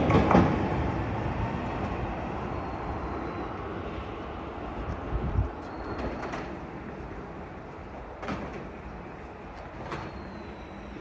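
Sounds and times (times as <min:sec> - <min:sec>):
railway platform background noise: 0:00.0 - 0:11.0.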